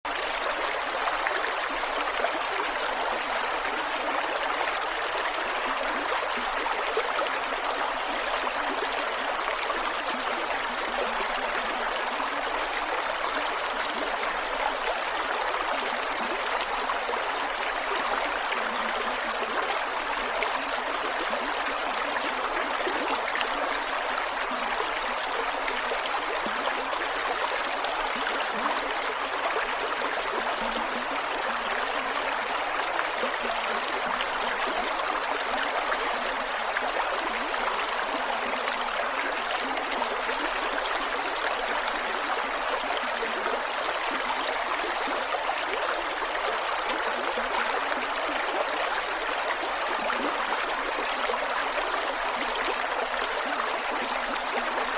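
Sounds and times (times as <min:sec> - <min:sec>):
creek water flowing over rocks: 0:00.0 - 0:54.9.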